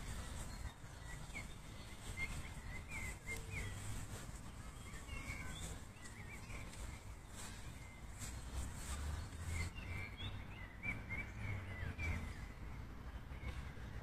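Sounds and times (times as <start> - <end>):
low outdoor rumble: 0.0 - 14.0
small birds chirping: 0.0 - 14.0.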